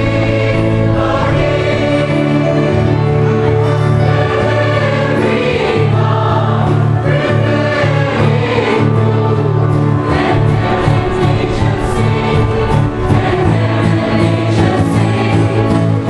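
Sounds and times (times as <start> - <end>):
electronic keyboard bass notes: 0.0 - 16.0
mixed choir singing a carol: 0.0 - 16.0.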